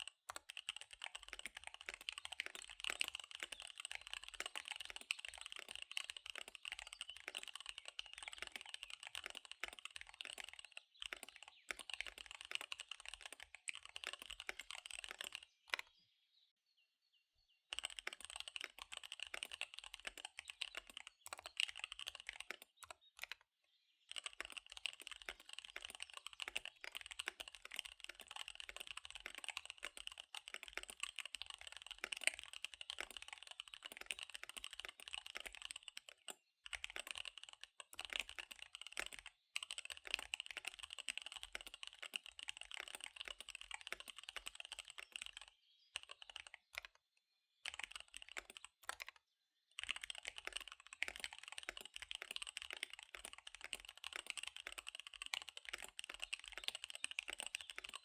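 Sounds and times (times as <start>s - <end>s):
mechanical keyboard typing: 0.0s - 15.9s, 17.7s - 23.4s, 24.1s - 58.0s.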